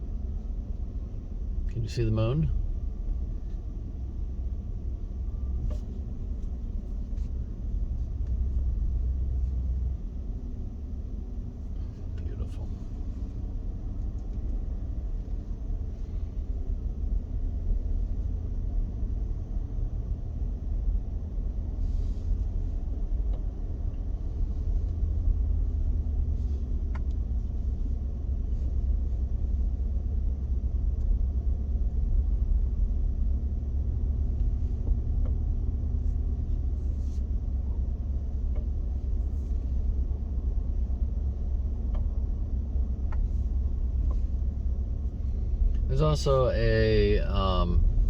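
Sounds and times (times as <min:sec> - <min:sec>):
car engine and tyres rumbling: 0:00.0 - 0:48.0.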